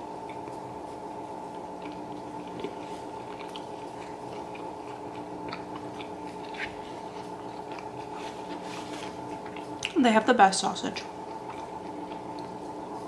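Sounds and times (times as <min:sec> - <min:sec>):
person chewing with wet smacks: 0:00.0 - 0:10.2, 0:10.9 - 0:13.0
steady hum: 0:00.0 - 0:13.0.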